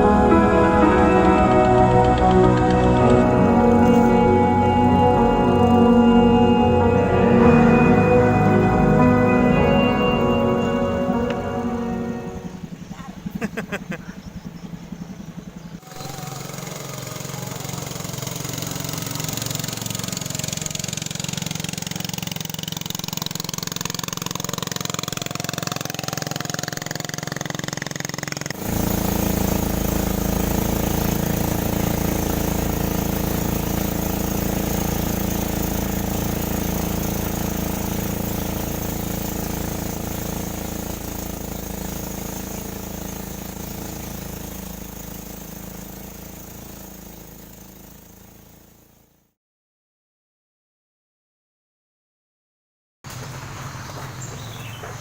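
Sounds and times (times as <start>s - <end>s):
engine running: 0.0s - 49.3s, 53.1s - 55.0s.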